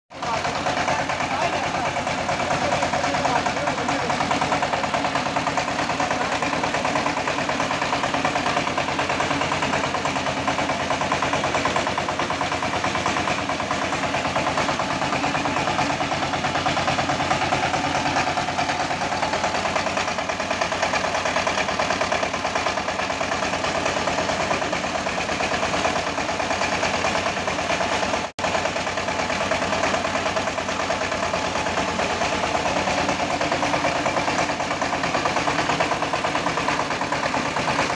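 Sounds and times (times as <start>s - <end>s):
diesel engine running: 0.1s - 37.9s
rice huller milling: 0.1s - 37.9s.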